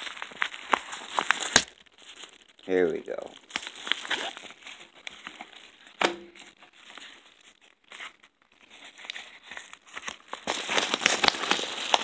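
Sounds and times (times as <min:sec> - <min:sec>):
paper crinkling: 0:00.0 - 0:12.0
paper rustling: 0:00.0 - 0:12.0.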